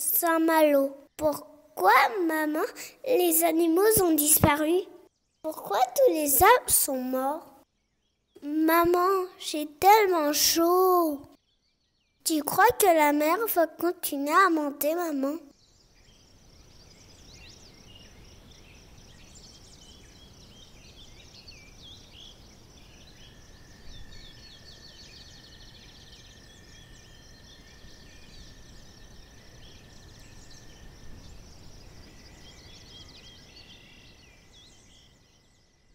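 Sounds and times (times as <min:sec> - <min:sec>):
birds chirping: 0:00.0 - 0:07.6, 0:08.4 - 0:11.3, 0:12.2 - 0:35.6.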